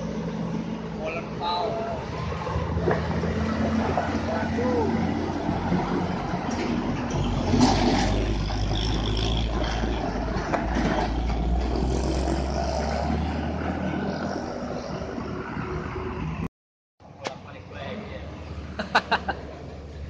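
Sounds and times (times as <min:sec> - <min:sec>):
heavy trucks and traffic: 0:00.0 - 0:20.0.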